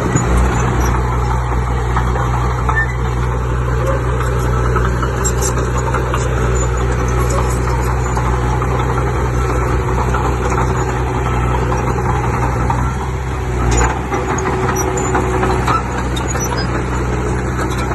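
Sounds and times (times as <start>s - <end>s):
heavy diesel engine running: 0.0s - 17.9s.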